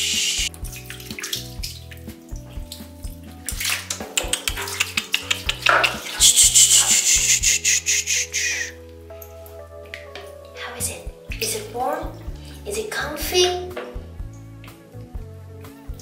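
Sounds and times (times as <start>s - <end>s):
background music with bass line: 0.0s - 16.0s
hands washing wet cat fur: 0.0s - 16.0s.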